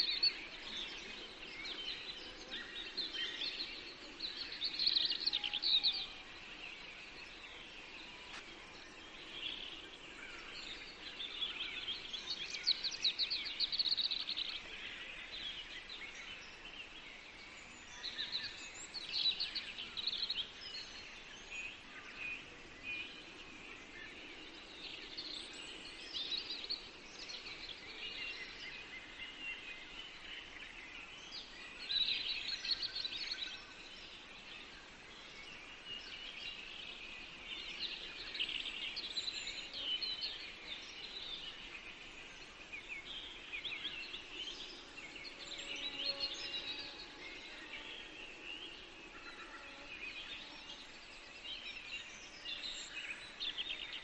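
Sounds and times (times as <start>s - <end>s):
faint background hiss: 0.0s - 54.0s
songbirds chirping and trilling: 0.0s - 54.0s.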